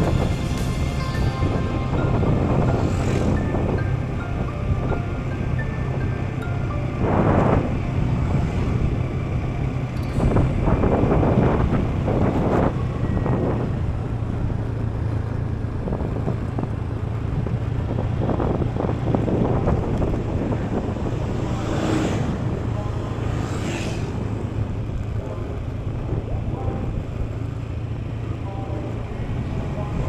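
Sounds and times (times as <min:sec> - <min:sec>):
wind rushing over microphone: 0:00.0 - 0:27.6
scooter engine running: 0:00.0 - 0:30.0.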